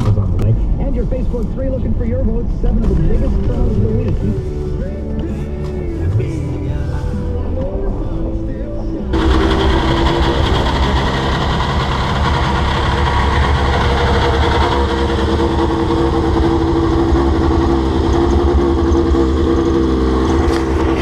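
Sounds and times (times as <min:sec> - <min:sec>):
snowmobile engine idling: 0:00.9 - 0:21.0.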